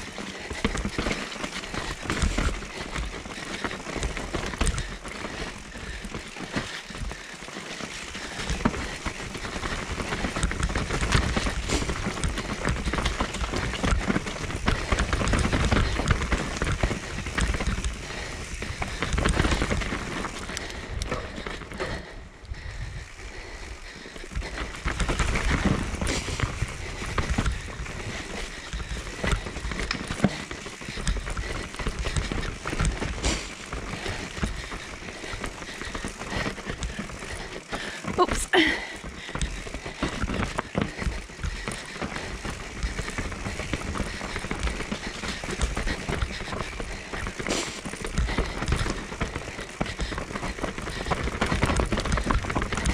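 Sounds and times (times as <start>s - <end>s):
bike clattering: 0.0s - 22.2s, 23.0s - 52.9s
bike rattling over bumps: 0.0s - 52.9s
bike tyres on dirt trail: 0.0s - 52.9s.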